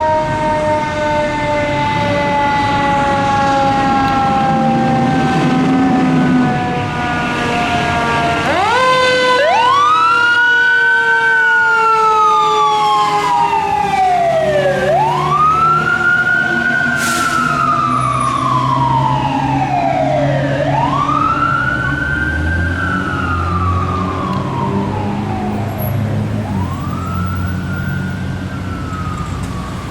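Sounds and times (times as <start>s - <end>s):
steady siren tone: 0.0s - 29.9s
truck engine rumbling: 0.0s - 29.9s
wailing fire engine siren: 0.0s - 29.9s.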